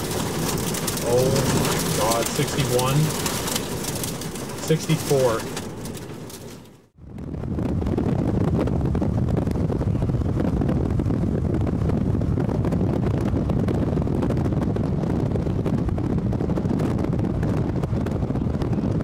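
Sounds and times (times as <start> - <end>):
gusty wind battering microphone: 0.0 - 19.0.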